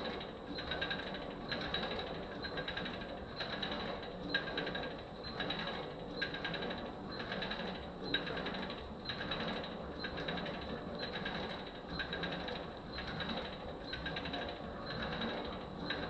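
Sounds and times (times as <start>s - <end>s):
rapid clicking of freewheel: 0.0s - 16.0s.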